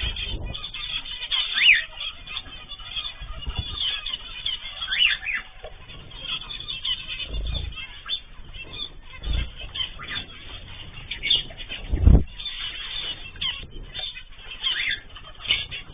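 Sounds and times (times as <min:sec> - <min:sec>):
bird squawk: 0:00.0 - 0:15.9
cage birds chirping: 0:00.0 - 0:15.9.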